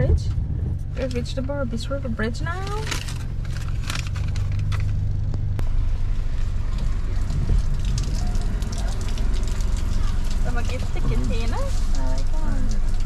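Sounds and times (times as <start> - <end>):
car engine idling: 0.0 - 13.0
raindrops ticking on car: 1.0 - 13.0.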